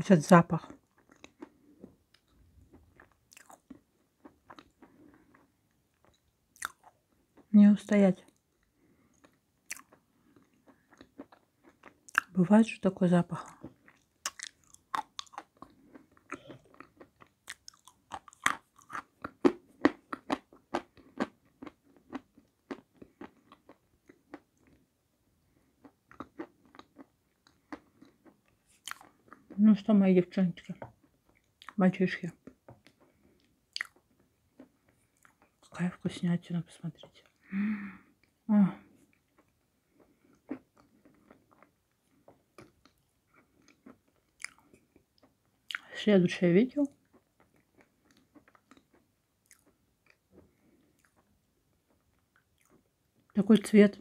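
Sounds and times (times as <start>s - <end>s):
crunching and chewing clay: 0.5s - 7.5s, 8.2s - 29.9s, 30.6s - 36.0s, 38.2s - 45.9s, 46.8s - 53.7s.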